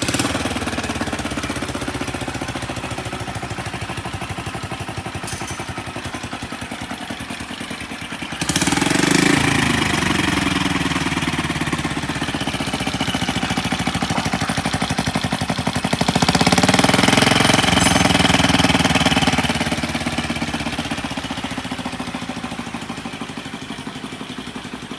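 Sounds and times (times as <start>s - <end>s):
moped engine idling and revving: 0.0s - 24.9s.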